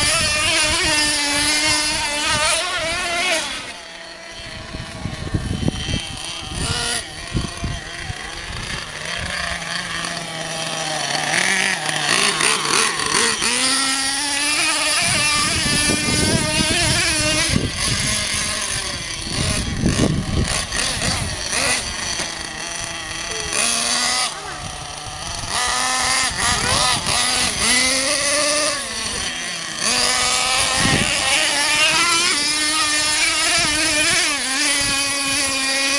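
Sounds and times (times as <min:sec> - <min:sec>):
model truck nitro engine revving: 0:00.0 - 0:35.9.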